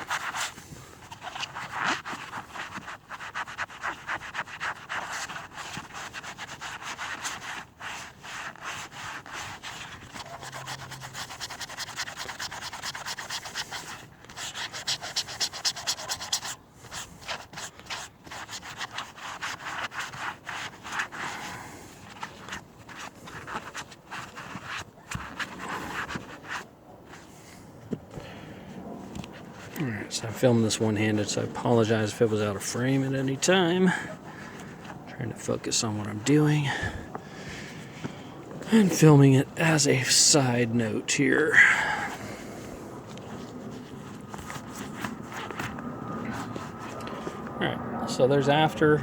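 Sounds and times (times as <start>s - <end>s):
sponge scrubbing vinyl: 0.0s - 27.3s, 28.8s - 37.1s, 38.6s - 47.3s.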